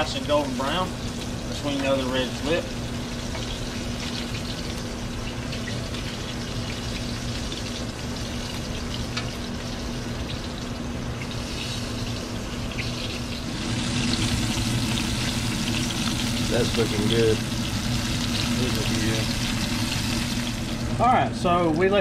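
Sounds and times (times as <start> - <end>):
meat frying in oil: 0.0 - 22.0
steady low hum: 0.0 - 22.0.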